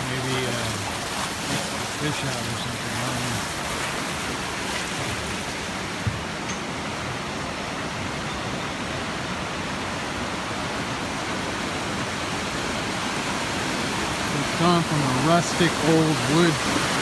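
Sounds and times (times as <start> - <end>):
fast-flowing river water: 0.0 - 17.0.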